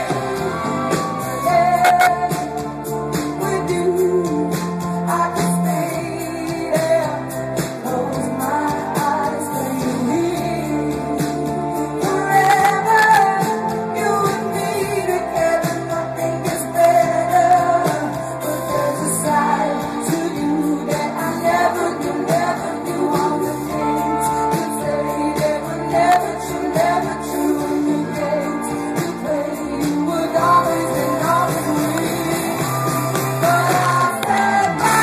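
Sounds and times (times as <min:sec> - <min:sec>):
live band playing: 0:00.0 - 0:35.0
woman singing: 0:00.0 - 0:35.0.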